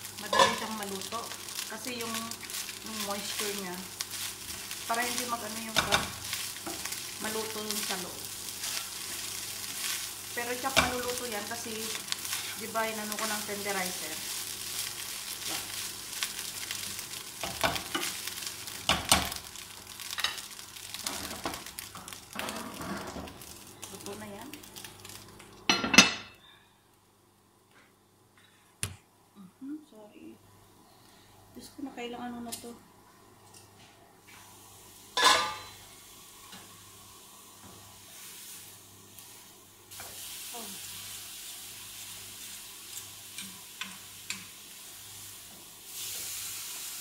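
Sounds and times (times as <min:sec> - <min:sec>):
rice sizzling in a frying pan: 0:00.0 - 0:26.1, 0:31.6 - 0:47.0.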